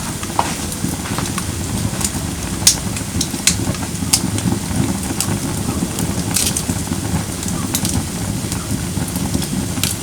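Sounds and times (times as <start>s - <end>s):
fire crackling and popping: 0.0s - 10.0s
firewood burning: 0.0s - 10.0s.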